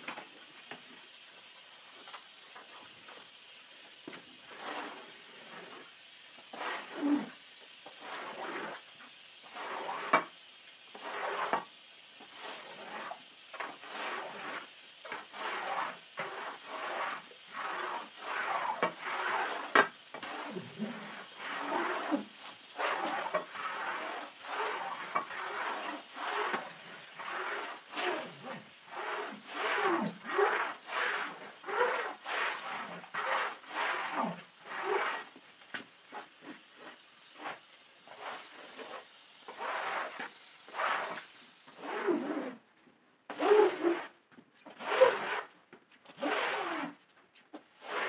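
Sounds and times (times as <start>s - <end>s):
scraper rasping over wet rug: 4.0s - 10.3s, 10.9s - 42.6s, 43.3s - 48.0s.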